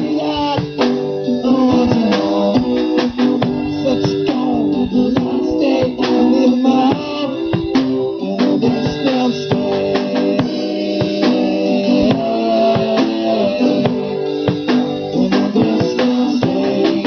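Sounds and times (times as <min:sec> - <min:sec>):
drum kit beat: 0:00.0 - 0:17.0
electric guitar: 0:00.0 - 0:17.0.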